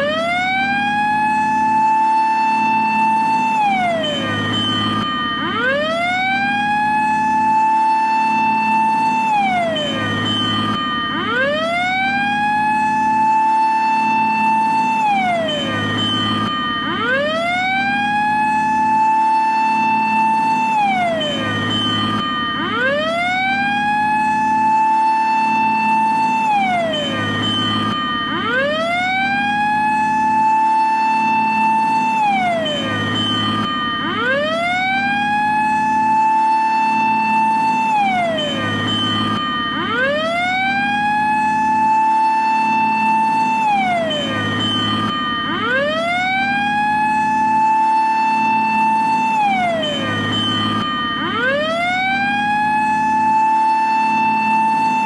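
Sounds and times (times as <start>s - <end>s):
fire engine siren wailing: 0.0s - 55.0s.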